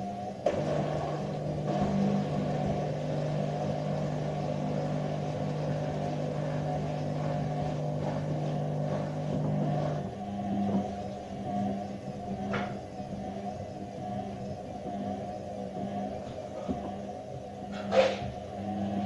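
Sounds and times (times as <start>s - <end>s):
washing machine motor humming: 0.0s - 19.0s.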